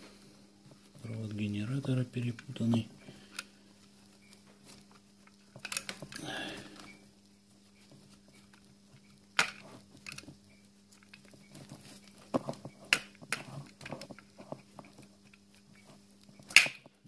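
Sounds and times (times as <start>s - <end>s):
faint steady hum: 0.0s - 17.0s
rustling wires and plastic connectors: 0.0s - 17.0s.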